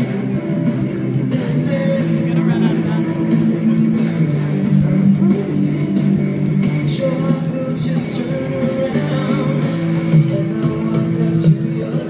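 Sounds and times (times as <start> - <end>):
live rock band with singing: 0.0 - 12.0.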